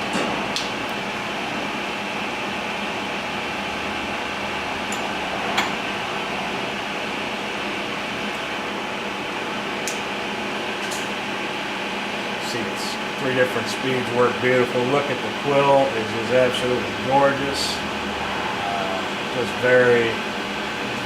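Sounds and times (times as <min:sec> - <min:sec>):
milling machine humming: 0:00.0 - 0:21.0.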